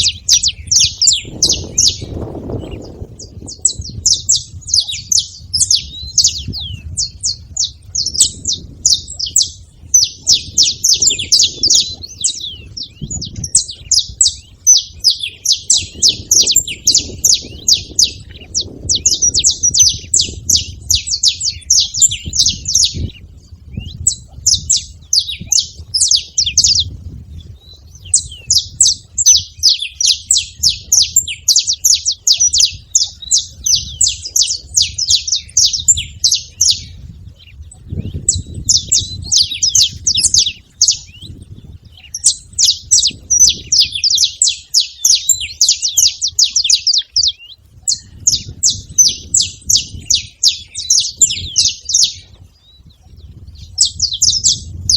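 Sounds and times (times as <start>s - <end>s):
finch singing high chirps: 0.0s - 54.9s.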